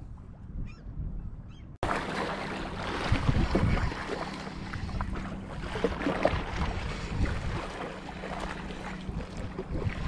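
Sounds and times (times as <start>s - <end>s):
wind buffeting microphone: 0.0s - 10.0s
water lapping against rocks: 1.8s - 10.0s.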